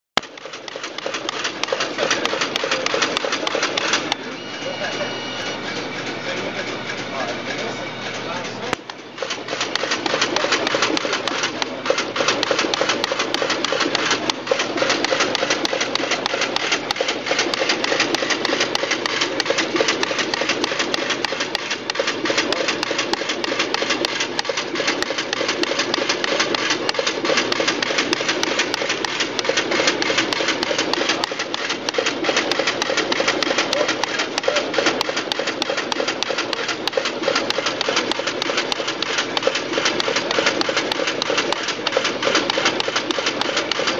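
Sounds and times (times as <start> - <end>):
card cutting machine clattering: 0.2 - 43.9.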